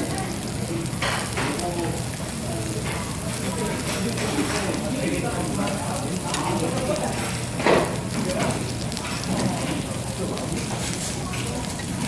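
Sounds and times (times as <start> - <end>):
background chatter: 0.0 - 12.0
meat sizzling on a grill: 0.0 - 12.0.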